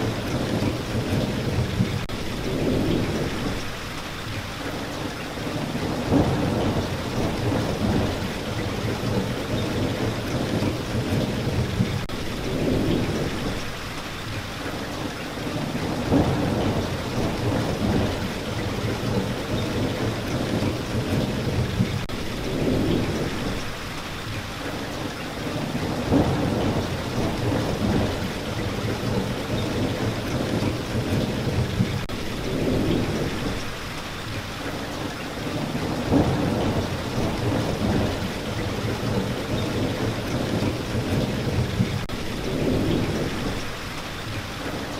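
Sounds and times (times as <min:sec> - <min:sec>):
low rolling thunder: 0:00.0 - 0:03.8, 0:05.4 - 0:13.8, 0:15.5 - 0:23.8, 0:25.4 - 0:33.8, 0:35.4 - 0:43.8
steady rain falling: 0:00.0 - 0:44.9.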